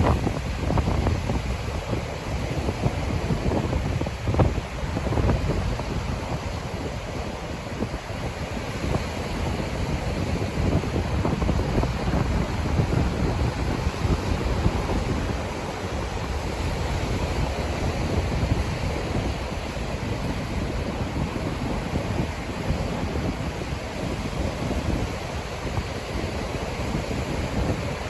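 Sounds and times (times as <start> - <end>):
surf washing on beach: 0.0 - 28.0
wind buffeting microphone: 0.0 - 28.0.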